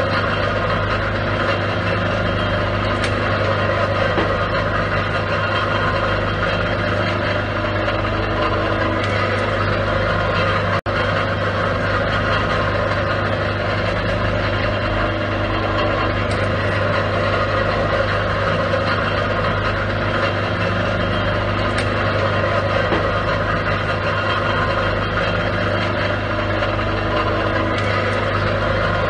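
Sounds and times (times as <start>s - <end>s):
oyster shucking machine humming: 0.0s - 29.0s.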